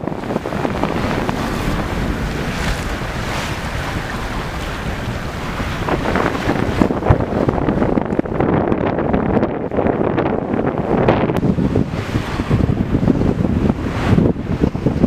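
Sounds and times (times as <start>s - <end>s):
sea water rushing along hull: 0.0s - 15.0s
wind buffeting microphone: 0.0s - 15.0s.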